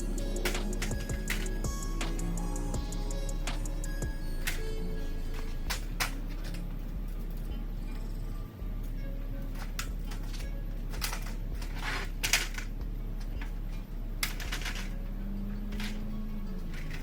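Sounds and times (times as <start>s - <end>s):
metal hardware clinking: 0.0s - 17.0s
steady low hum: 0.0s - 17.0s.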